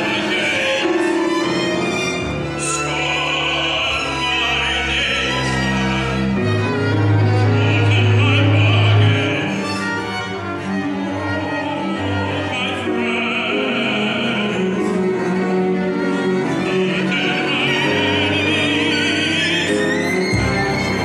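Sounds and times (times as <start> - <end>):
bowed strings with vibrato: 0.0 - 21.0
piano: 0.0 - 21.0.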